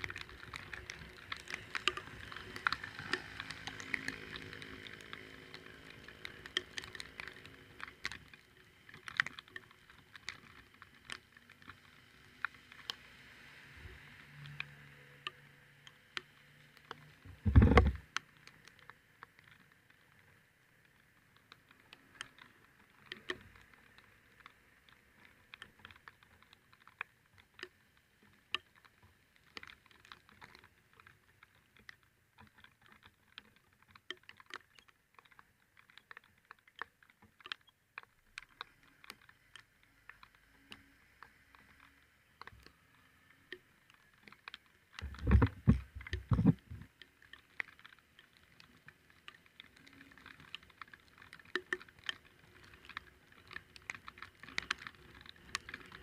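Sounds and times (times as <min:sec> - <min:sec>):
raindrops ticking: 0:00.0 - 0:56.0.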